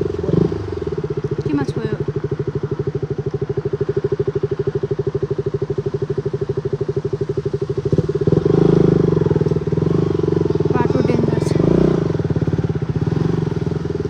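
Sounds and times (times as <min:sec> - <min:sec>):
motorcycle engine puttering: 0:00.0 - 0:14.0.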